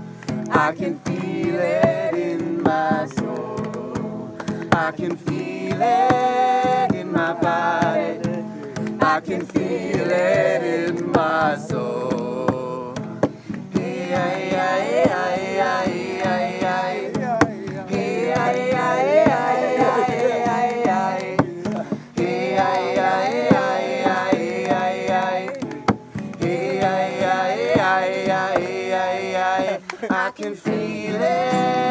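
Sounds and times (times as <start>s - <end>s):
acoustic guitar strumming: 0.0s - 31.9s
hands clapping: 0.1s - 11.4s, 12.1s - 31.7s
person singing: 0.5s - 13.0s, 13.7s - 31.9s.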